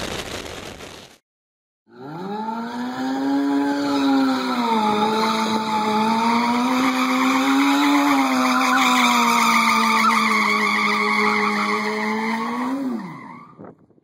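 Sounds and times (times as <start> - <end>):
motorcycle engine revving high: 1.9 - 13.2.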